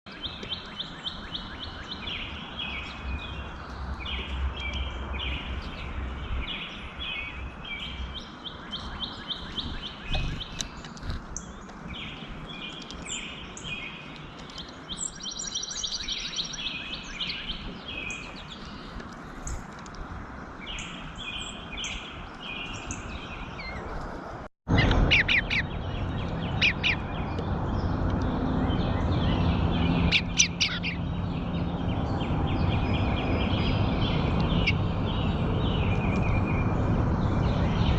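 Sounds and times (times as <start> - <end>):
birds chirping: 0.1 - 37.9.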